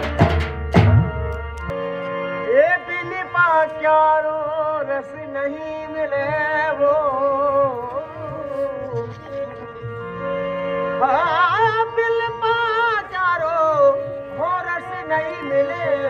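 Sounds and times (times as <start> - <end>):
harmonium chords: 0.0 - 16.0.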